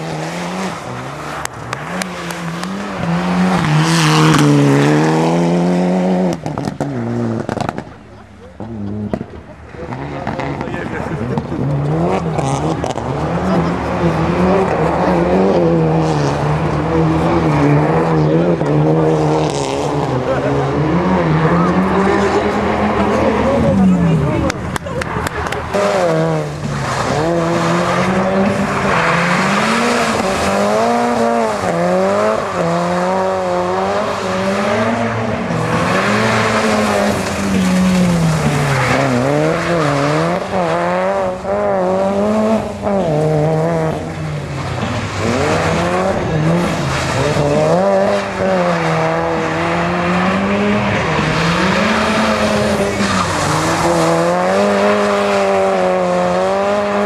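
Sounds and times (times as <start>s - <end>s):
rally car engine revving: 0.0s - 57.0s
tyres skidding on wet surface: 8.6s - 57.0s.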